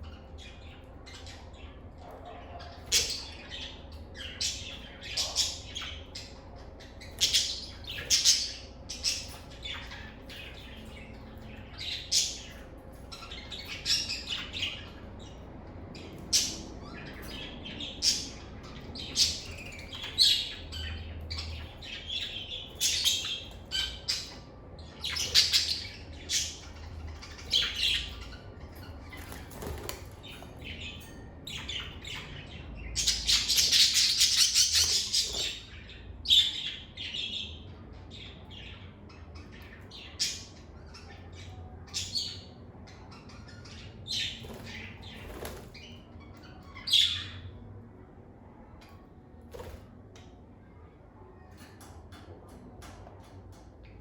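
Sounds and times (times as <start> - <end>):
lovebirds chirping and squawking: 0.0 - 47.8.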